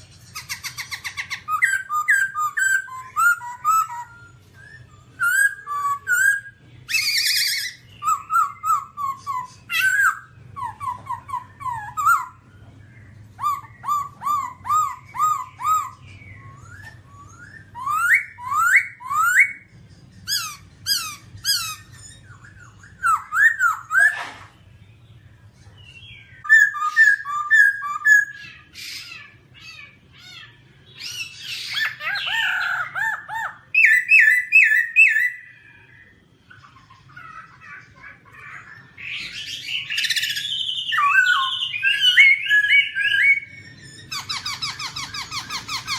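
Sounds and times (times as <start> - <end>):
bird whistling song: 0.0 - 36.8, 38.3 - 45.9.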